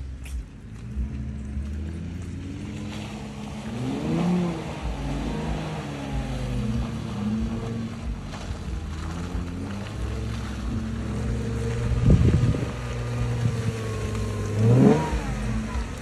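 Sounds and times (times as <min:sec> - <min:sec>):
engine revving hard: 0:00.8 - 0:16.0.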